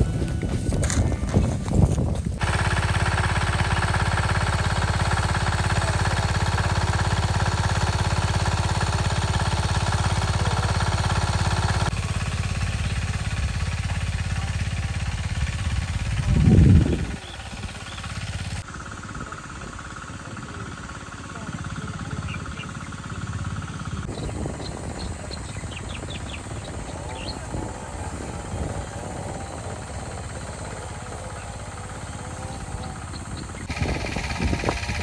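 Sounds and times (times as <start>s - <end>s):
water pump engine chugging: 0.0s - 35.0s.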